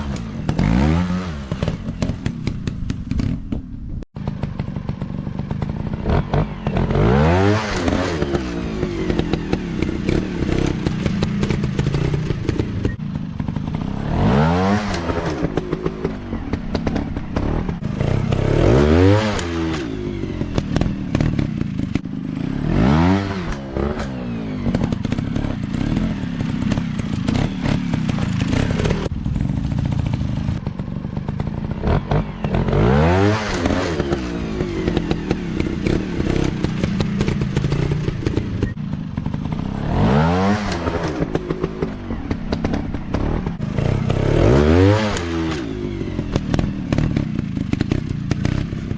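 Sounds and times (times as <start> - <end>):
dirt bike engines revving: 4.2 - 48.9.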